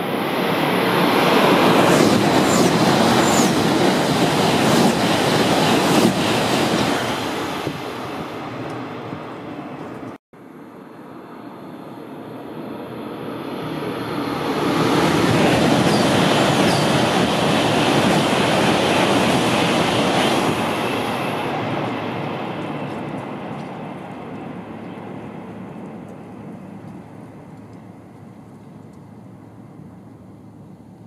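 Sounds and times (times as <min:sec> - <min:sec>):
high-speed train passing: 0:00.0 - 0:31.0.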